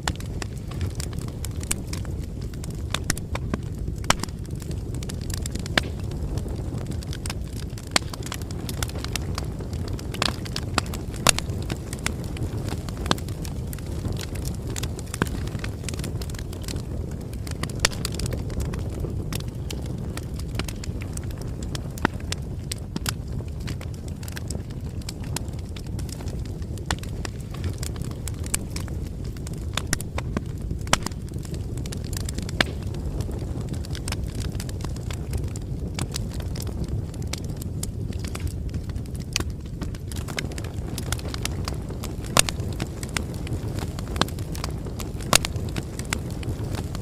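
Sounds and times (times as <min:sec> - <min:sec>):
bonfire popping and snapping: 0:00.0 - 0:47.0
low rumble of burning: 0:00.0 - 0:47.0.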